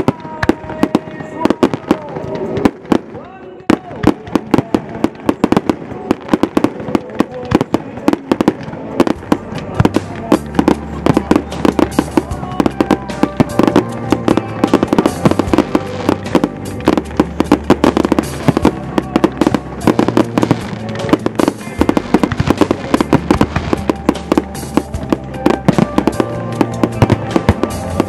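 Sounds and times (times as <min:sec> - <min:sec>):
fireworks bursting: 0:00.0 - 0:28.0
music playing: 0:00.0 - 0:28.0.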